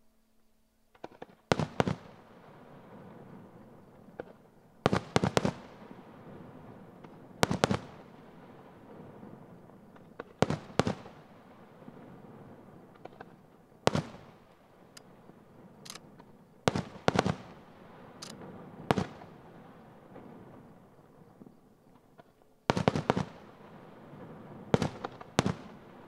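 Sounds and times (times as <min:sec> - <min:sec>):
high firework crackles: 0:00.9 - 0:26.0.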